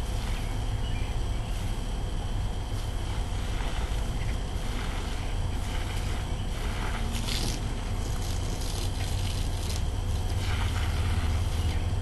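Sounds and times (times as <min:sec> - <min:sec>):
hose water spraying on grass: 0:00.0 - 0:00.6, 0:01.4 - 0:02.0, 0:02.7 - 0:12.0
steady low rumble: 0:00.0 - 0:12.0.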